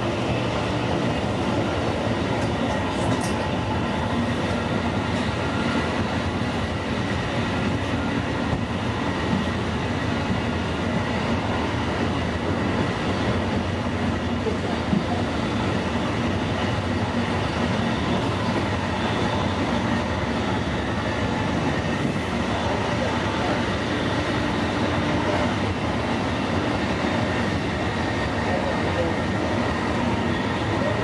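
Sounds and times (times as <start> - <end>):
train wheels on rail: 0.0 - 31.0.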